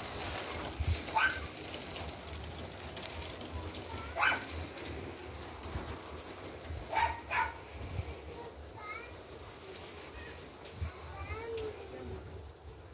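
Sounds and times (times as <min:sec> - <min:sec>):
rain patter: 0:00.0 - 0:12.9.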